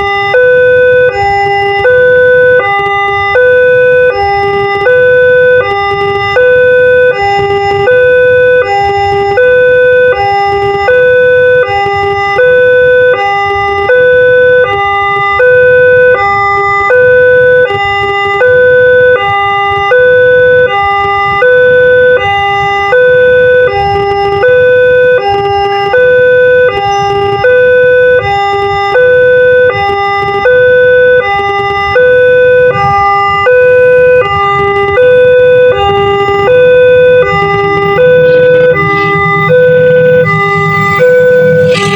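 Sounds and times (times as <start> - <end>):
two-tone warning siren: 0.0 - 41.9.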